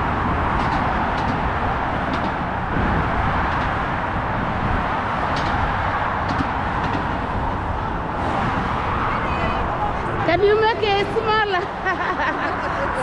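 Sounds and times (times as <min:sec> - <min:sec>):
heavy motorway traffic rushing: 0:00.0 - 0:13.0.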